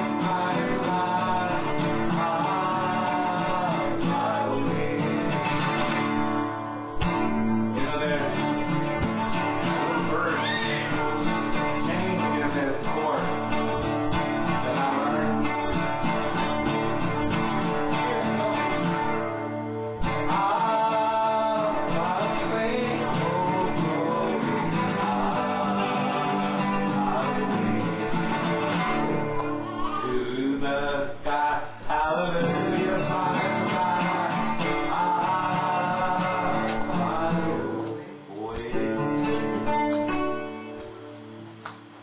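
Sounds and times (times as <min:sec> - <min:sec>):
person singing: 0:00.0 - 0:41.0
acoustic guitar: 0:00.0 - 0:42.0.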